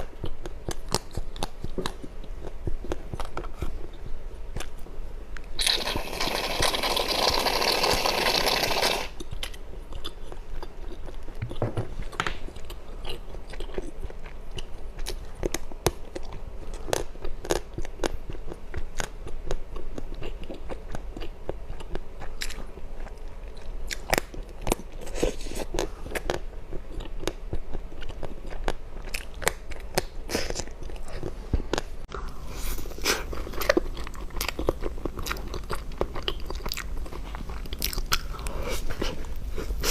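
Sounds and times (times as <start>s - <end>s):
person chewing crunchy food: 0.0s - 4.8s, 5.4s - 39.9s.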